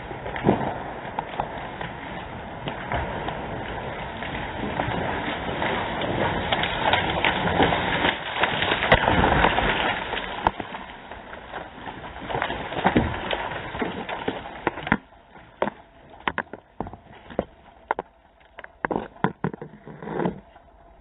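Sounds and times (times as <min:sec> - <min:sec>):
branches crackling and snapping: 0:00.0 - 0:21.0
tree falling: 0:00.0 - 0:21.0.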